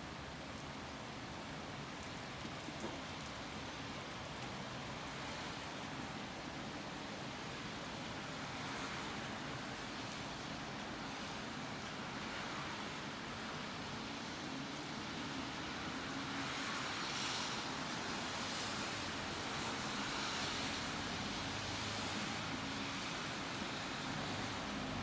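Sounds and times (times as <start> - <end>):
faint ticks of raindrops: 0.0 - 25.0
steady rain falling: 0.0 - 25.0.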